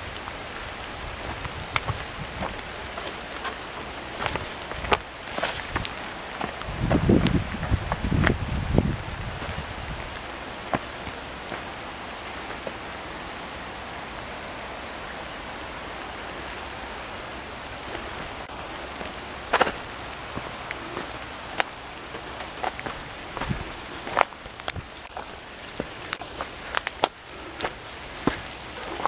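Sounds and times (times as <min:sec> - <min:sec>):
rain falling on leaves: 0:00.0 - 0:29.0.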